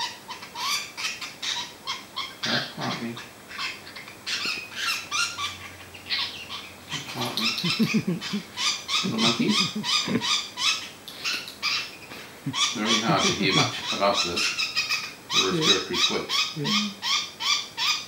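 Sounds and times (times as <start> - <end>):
budgerigar breathing squeaks: 0.0 - 18.0.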